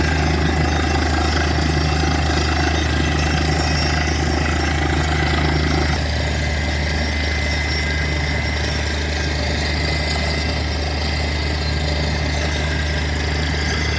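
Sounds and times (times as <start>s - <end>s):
drilling rig engine droning: 0.0s - 13.9s.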